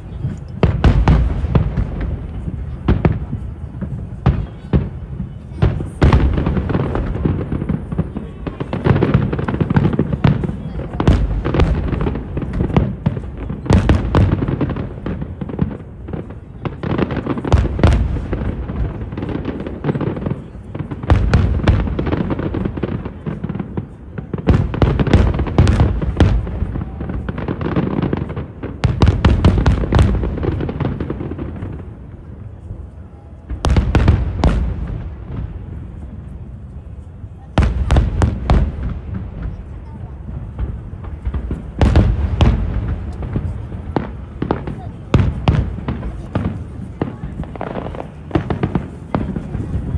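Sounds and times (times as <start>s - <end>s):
loud fireworks bangs: 0.0s - 49.9s.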